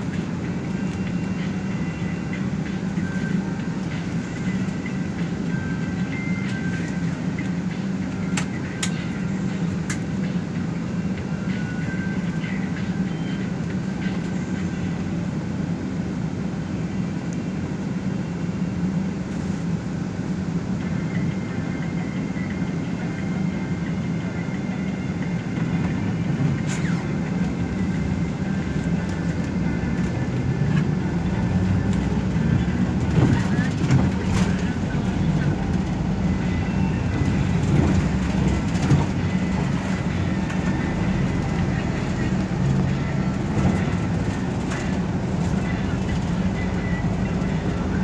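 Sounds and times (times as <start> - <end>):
bus engine and road noise: 0.0 - 48.0.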